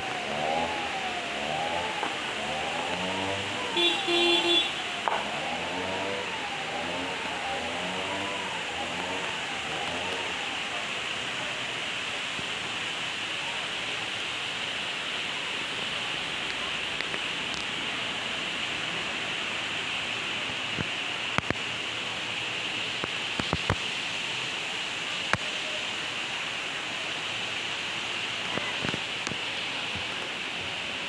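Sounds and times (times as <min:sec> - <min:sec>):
forest water rushing: 0:00.0 - 0:31.0.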